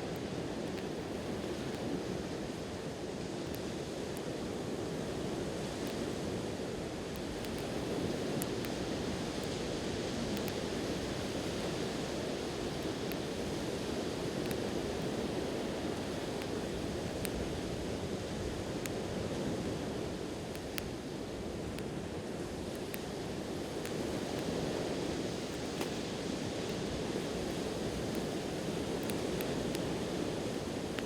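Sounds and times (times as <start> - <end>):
faint campfire crackles: 0.0 - 31.0.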